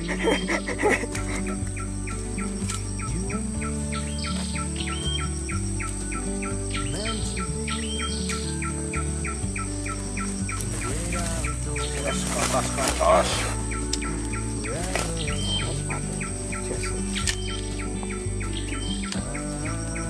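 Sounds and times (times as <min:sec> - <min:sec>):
instrumental music with bass line: 0:00.0 - 0:20.0.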